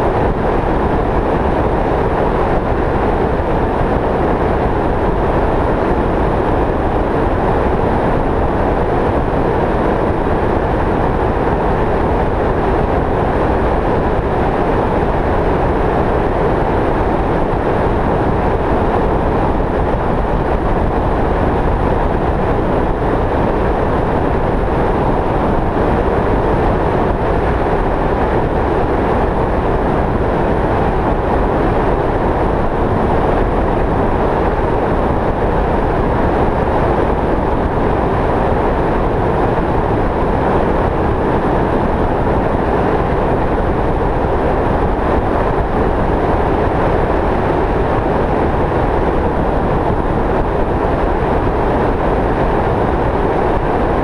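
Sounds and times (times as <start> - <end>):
vehicle road and wind noise: 0.0 - 54.0.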